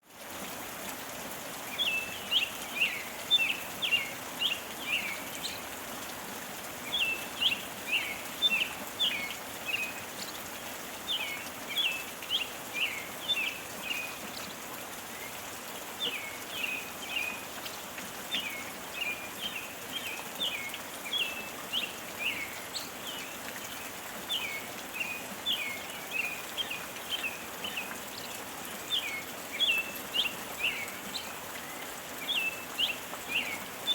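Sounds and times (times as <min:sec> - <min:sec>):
gentle rain: 0:00.0 - 0:33.9
songbird chirping: 0:01.7 - 0:05.9, 0:06.6 - 0:33.9.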